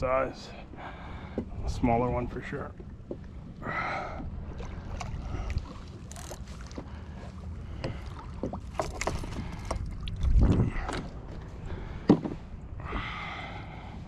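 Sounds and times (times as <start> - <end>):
wind rumble on microphone: 1.4 - 14.0.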